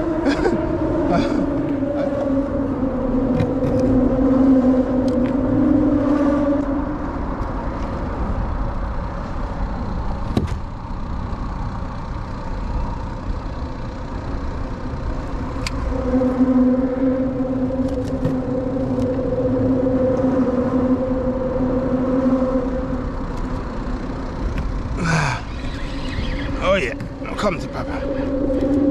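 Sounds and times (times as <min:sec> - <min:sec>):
traffic hum on bridge: 0:00.0 - 0:28.9.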